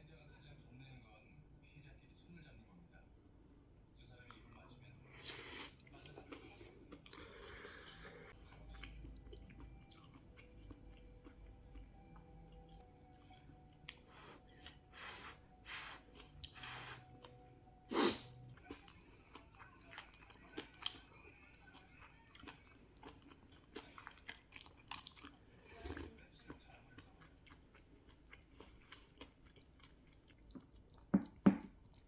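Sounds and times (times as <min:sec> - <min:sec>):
person chewing food: 0:04.3 - 0:32.0.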